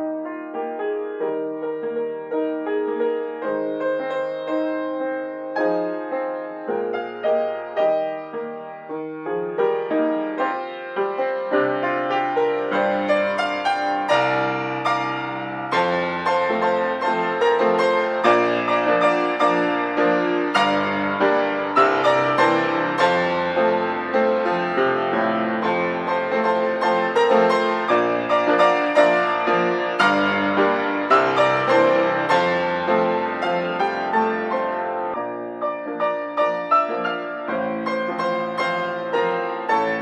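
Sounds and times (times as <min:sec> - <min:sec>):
solo piano playing quick notes: 0:00.0 - 0:40.0.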